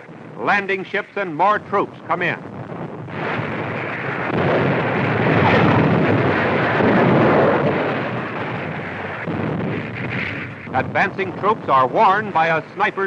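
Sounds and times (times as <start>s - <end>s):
battle sound effects rumble: 0.0s - 13.0s.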